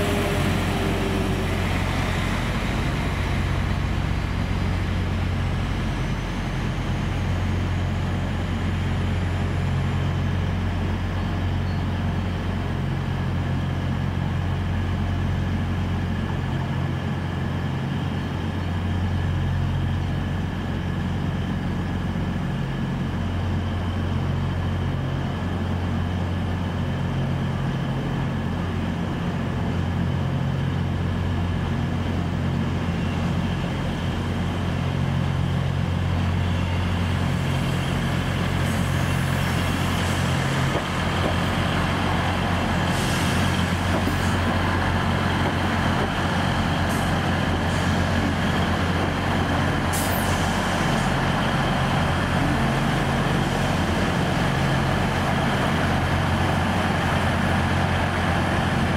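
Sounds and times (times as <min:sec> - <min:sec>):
train diesel engines humming: 0:00.0 - 0:58.9.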